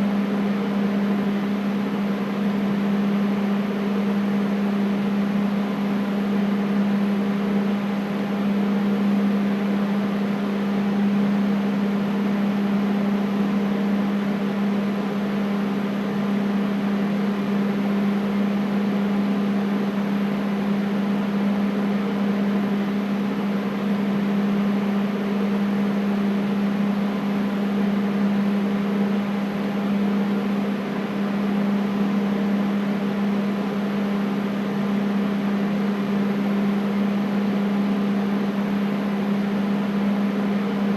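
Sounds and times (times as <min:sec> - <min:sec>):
air conditioner humming: 0:00.0 - 0:40.9.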